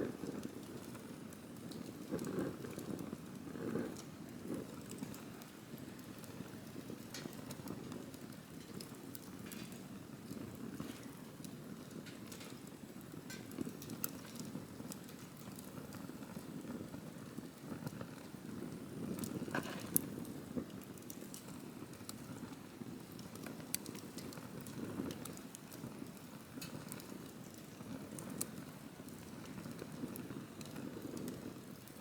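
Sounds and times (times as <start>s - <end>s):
burning wood crackling and popping: 0.0s - 32.0s
campfire flames rushing: 0.0s - 32.0s.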